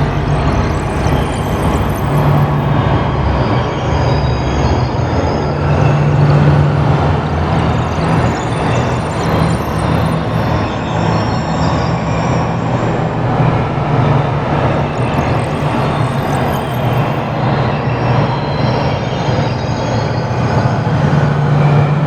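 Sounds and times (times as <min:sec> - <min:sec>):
dense rumbling drone: 0:00.0 - 0:22.0.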